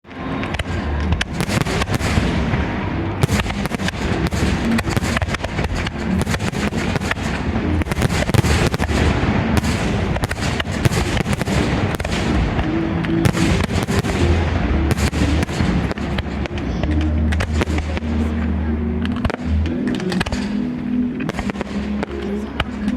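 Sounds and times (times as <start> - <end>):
fireworks bangs and crackling: 0.1 - 22.9.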